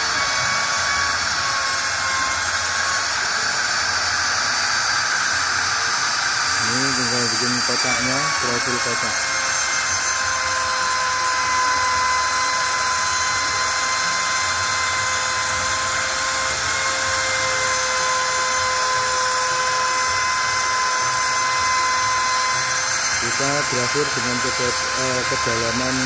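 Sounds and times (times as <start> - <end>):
router spindle high whine: 0.0 - 26.0.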